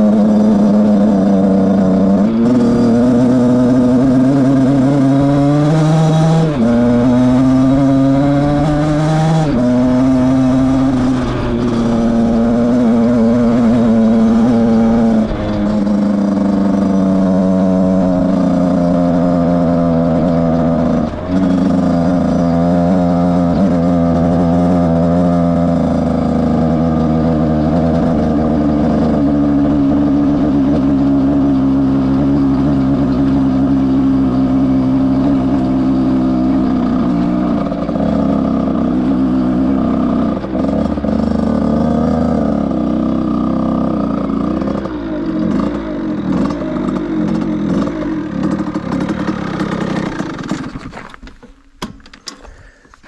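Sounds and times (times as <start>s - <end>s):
two-stroke motorcycle engine revving: 0.0s - 51.4s.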